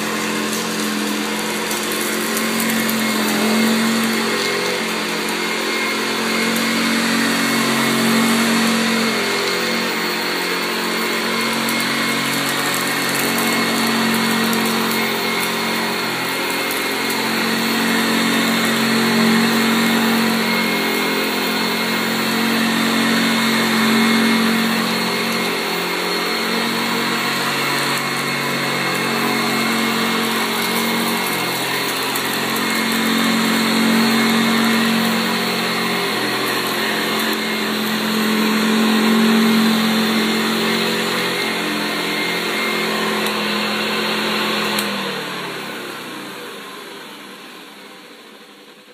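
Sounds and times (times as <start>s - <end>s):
upright vacuum cleaner on carpet: 0.0s - 48.9s.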